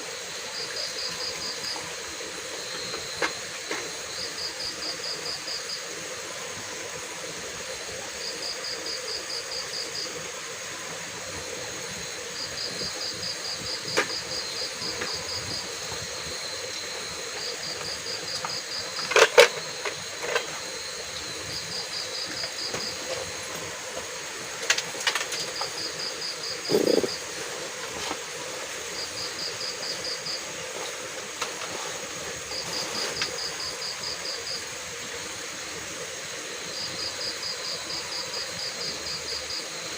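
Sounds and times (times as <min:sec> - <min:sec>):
cricket chirping in trills: 0:00.0 - 0:39.9
steady hiss: 0:00.0 - 0:39.9.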